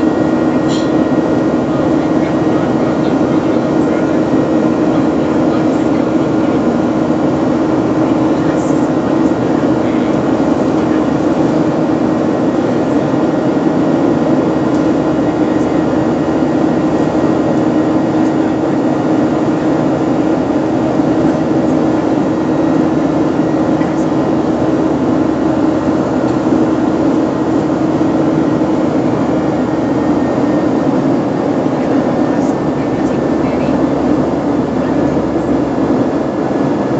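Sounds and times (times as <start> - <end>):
airplane engine drone in cabin: 0.0 - 36.9.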